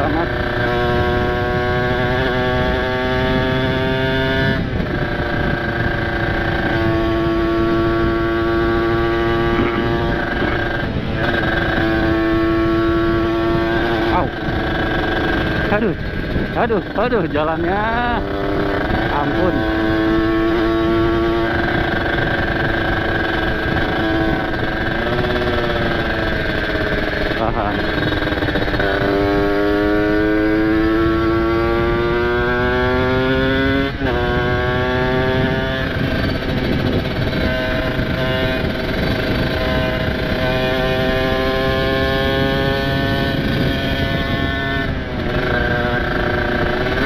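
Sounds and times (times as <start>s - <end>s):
motorcycle engine at high revs: 0.0s - 47.0s.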